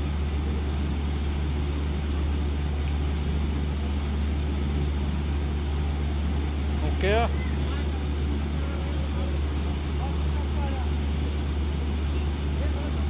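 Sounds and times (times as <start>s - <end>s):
crane diesel engine droning: 0.0s - 13.0s.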